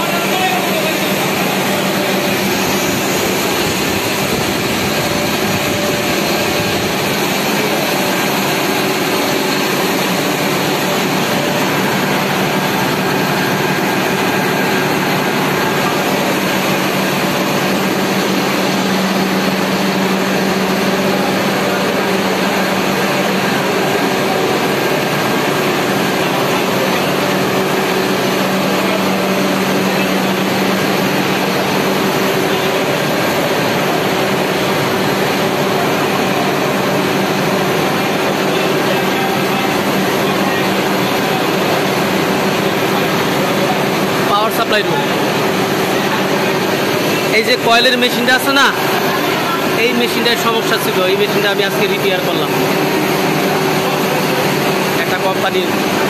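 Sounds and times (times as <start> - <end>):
coil winding machine humming: 0.0 - 56.0.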